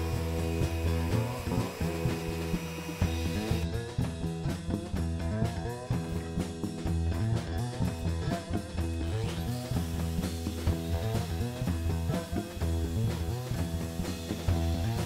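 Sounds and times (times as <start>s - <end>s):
blues-rock guitar and drums: 0.0s - 15.0s.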